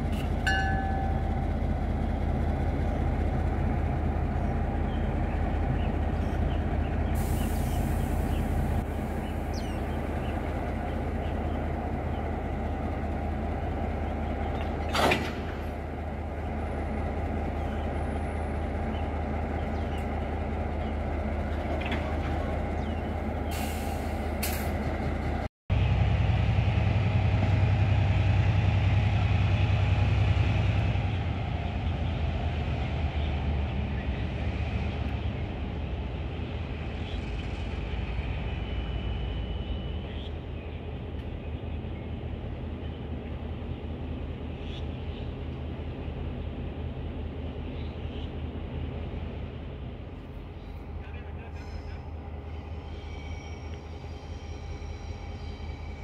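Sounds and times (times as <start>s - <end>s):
diesel locomotive idling: 0.0s - 56.0s.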